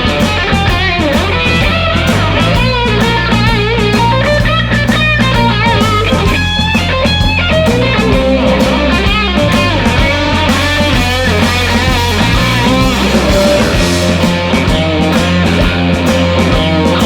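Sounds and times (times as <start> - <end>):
drum kit: 0.0 - 17.0
electric bass: 0.0 - 17.0
lead electric guitar bent notes: 0.0 - 17.0.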